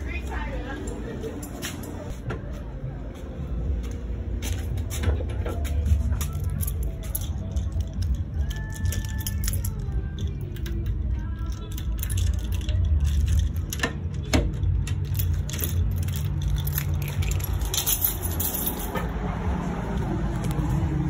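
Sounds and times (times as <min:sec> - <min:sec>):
low rumble with hum: 0:00.0 - 0:21.0.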